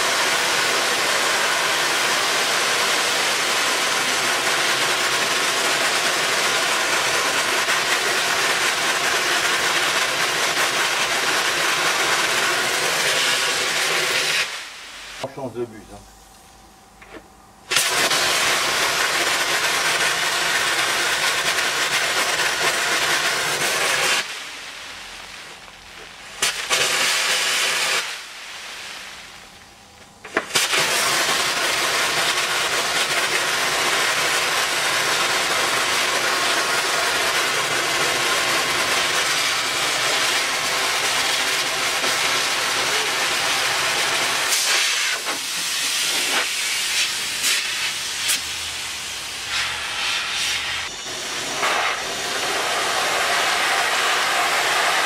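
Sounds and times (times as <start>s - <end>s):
sandblasting gun hissing: 0.0s - 15.3s, 17.7s - 29.5s, 30.3s - 55.0s.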